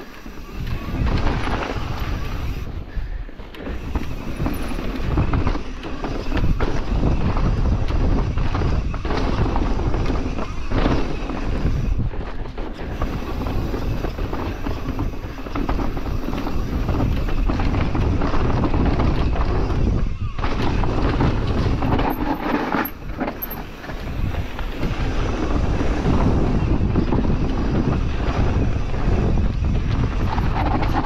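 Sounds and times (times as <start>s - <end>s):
bike rattling and knocking: 0.0s - 2.7s, 3.3s - 31.0s
wind rushing over microphone: 0.0s - 31.0s
tyres rolling on dirt: 3.4s - 31.0s.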